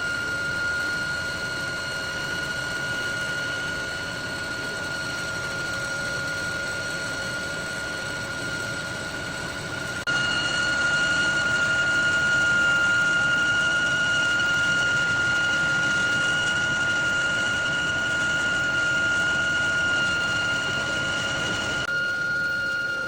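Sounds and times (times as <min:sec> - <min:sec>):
metal lathe whining: 0:00.0 - 0:23.0.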